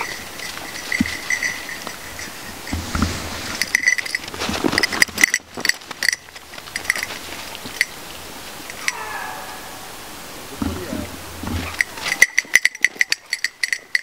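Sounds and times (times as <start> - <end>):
dog collar jingling: 0.0 - 9.0, 11.6 - 14.0.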